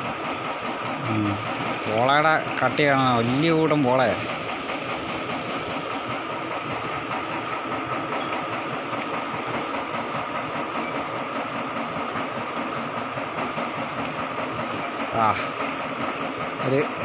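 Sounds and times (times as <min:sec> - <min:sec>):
water pump running: 0:00.0 - 0:17.0.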